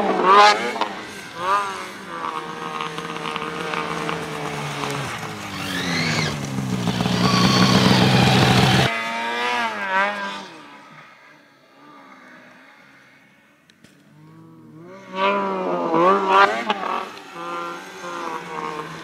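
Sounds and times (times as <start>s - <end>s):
snowmobile engines revving: 0.0s - 13.4s, 14.1s - 19.0s.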